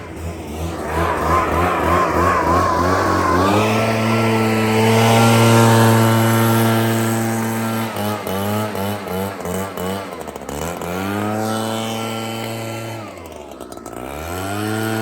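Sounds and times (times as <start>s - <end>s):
leaf blower engine revving: 0.0s - 15.0s.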